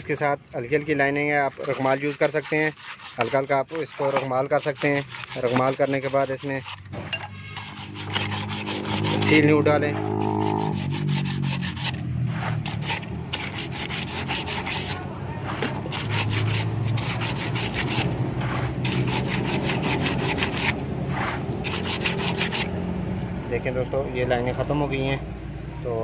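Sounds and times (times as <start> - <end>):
sandpaper rasping on steel shaft: 0.8 - 22.8.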